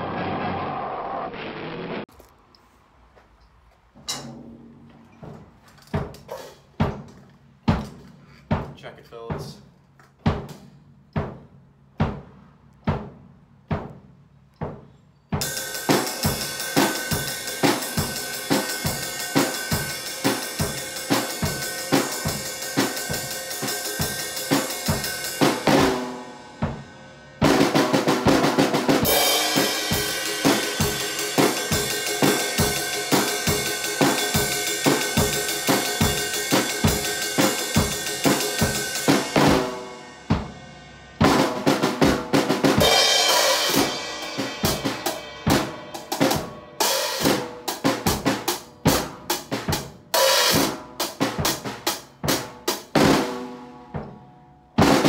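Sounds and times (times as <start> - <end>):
drum kit solo: 4.1 - 55.0.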